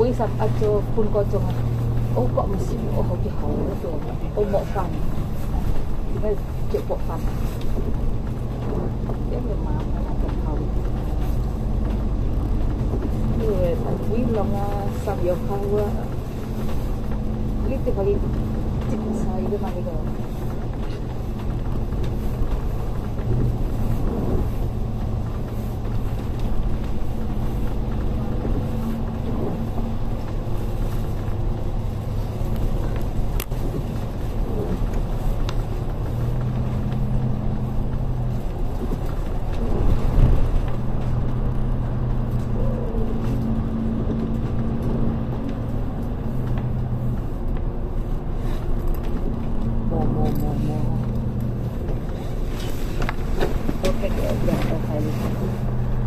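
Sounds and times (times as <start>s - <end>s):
bus engine drone: 0.0s - 56.0s
road rumble: 0.0s - 56.0s.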